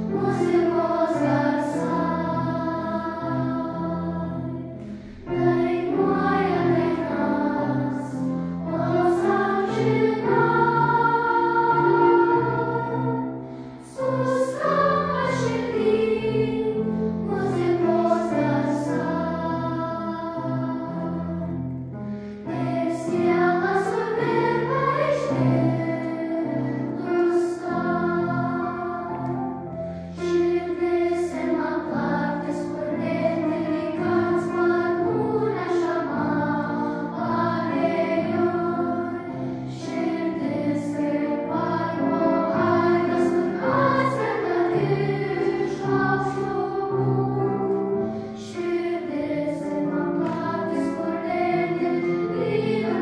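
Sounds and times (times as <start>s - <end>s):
children's choir singing: 0.0s - 53.0s
piano accompaniment: 0.0s - 53.0s.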